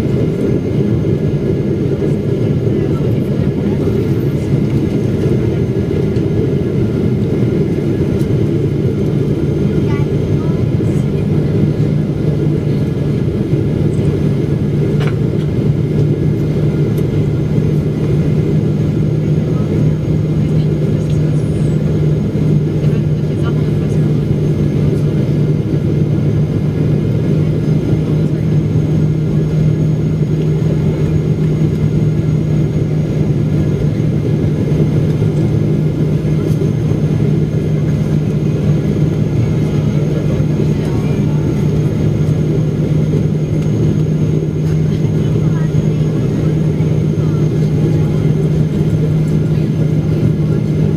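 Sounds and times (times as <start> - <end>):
aircraft engine drone in cabin: 0.0 - 50.9.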